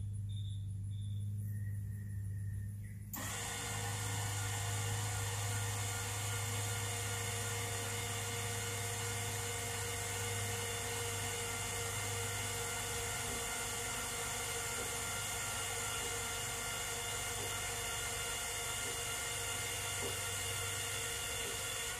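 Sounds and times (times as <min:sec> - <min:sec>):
electric actuators whirring: 0:00.0 - 0:21.9.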